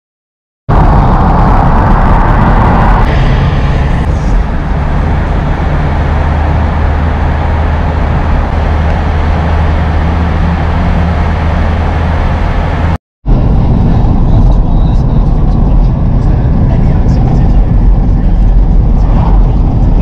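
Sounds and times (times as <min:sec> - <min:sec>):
car cabin road and engine noise: 0:00.7 - 0:20.0.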